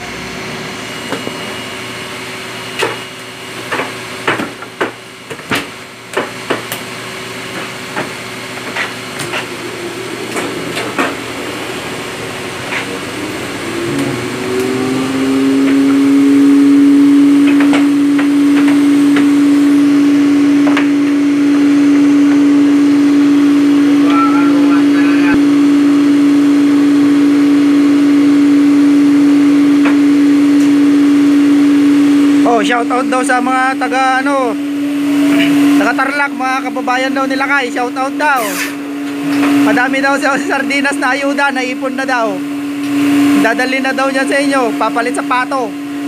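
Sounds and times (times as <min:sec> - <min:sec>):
electric motor humming: 0:06.7 - 0:46.0.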